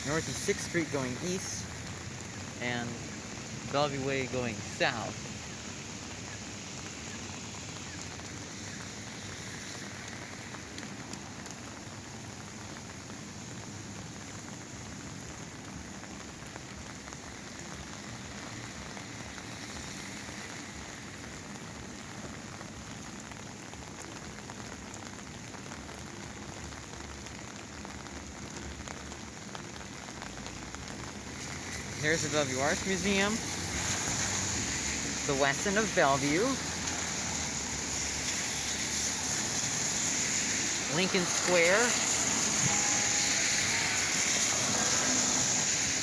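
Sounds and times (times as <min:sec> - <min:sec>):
rain pattering on an umbrella: 0:00.0 - 0:46.0.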